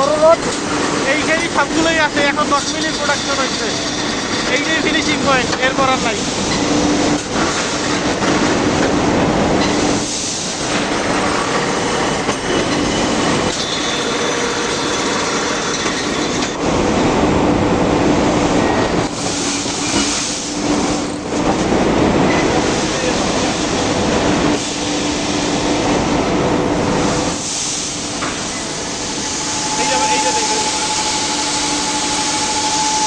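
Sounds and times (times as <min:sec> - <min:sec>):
rolling mill clatter and rumble: 0:00.0 - 0:33.0.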